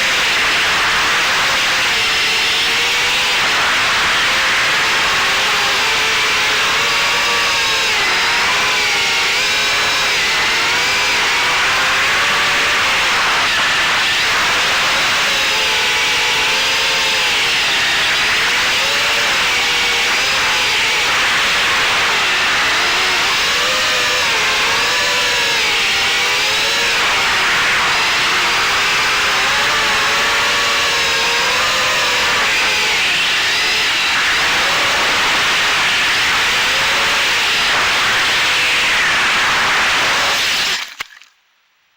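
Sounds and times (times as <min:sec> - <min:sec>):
drone motors whining: 0:00.0 - 0:41.2.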